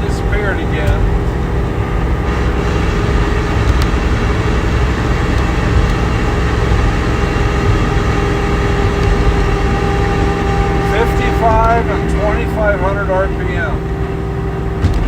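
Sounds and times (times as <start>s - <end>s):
car engine cruising: 0.0s - 15.0s
road rumble: 0.0s - 15.0s
steady tone: 0.0s - 15.0s.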